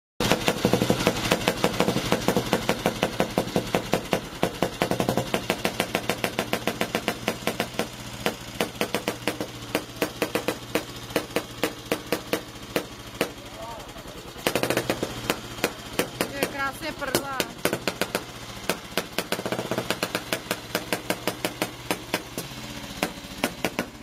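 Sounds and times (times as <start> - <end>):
motorcycle engine idling: 0.2 - 24.0.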